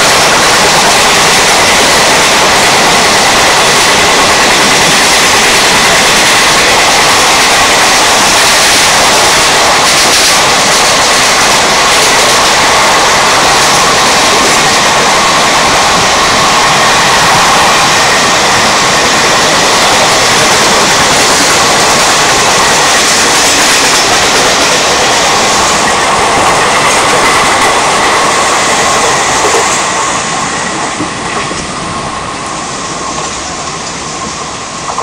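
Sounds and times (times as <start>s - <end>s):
clickety-clack of coaches: 0.0s - 29.9s, 33.0s - 35.0s
train wheels rushing on rails: 0.0s - 35.0s.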